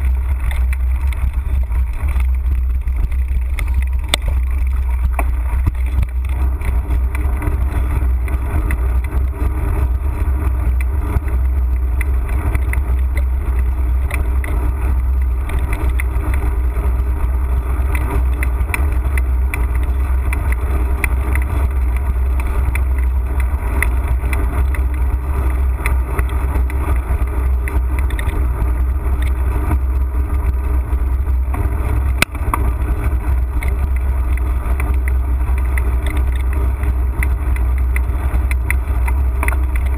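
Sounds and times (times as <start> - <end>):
bike rattling over wooden planks: 0.0 - 39.9
wind rumble on microphone: 0.0 - 39.9.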